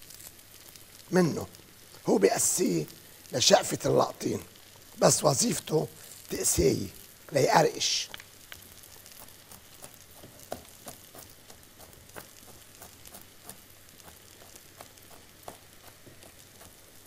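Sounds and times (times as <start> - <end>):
faint sizzle of frying: 0.0 - 17.0.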